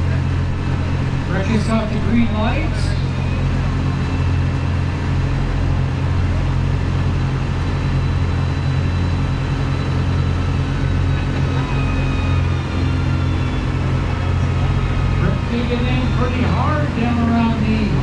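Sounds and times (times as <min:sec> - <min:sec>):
faint high whine: 0:00.0 - 0:18.0
tractor engine under heavy load: 0:00.0 - 0:18.0.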